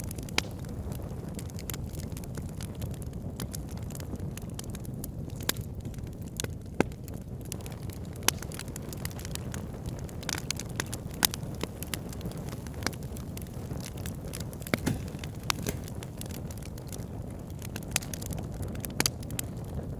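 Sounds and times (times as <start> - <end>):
fire flames rumbling: 0.0 - 19.9
wood fire crackling and popping: 0.0 - 19.9.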